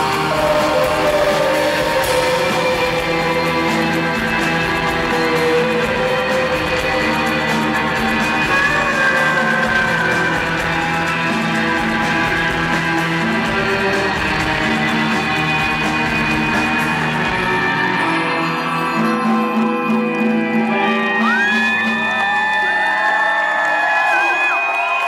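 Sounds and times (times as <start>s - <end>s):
drums: 0.0s - 25.0s
electric guitars: 0.0s - 25.0s.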